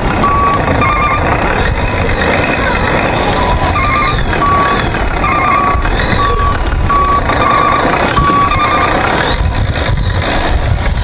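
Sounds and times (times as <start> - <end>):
reversing alarm beeping: 0.0 - 10.5
loud steady rumble: 0.0 - 11.0.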